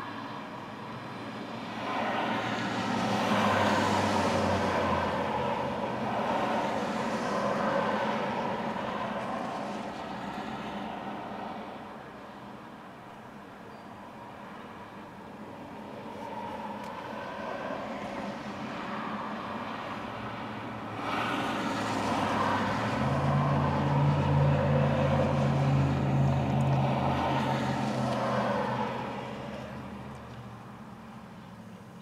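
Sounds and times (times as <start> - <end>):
traffic tyre and road noise: 0.0 - 32.0.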